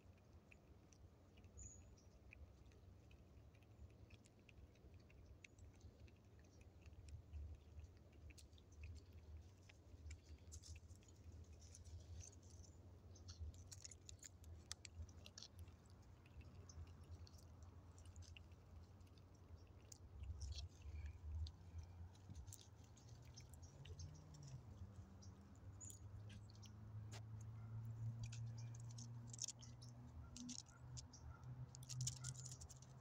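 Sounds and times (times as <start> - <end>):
low steady rumble: 0.0 - 33.0
squirrel crunching a peanut: 0.0 - 33.0.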